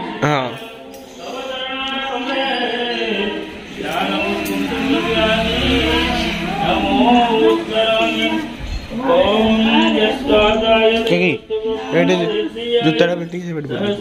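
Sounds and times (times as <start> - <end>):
person singing over music: 0.0 - 14.0.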